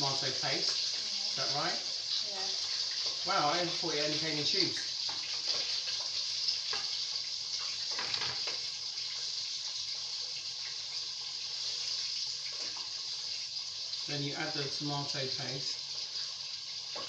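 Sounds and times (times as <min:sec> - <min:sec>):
onions and tomatoes sizzling in oil: 0:00.0 - 0:17.0.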